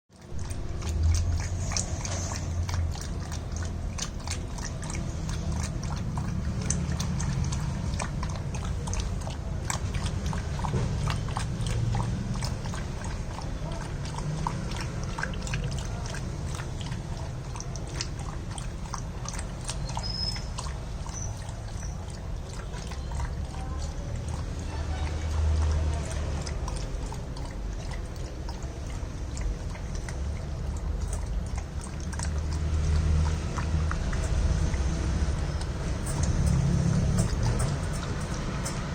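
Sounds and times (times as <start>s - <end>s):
dog lapping and slurping: 0.1s - 38.9s.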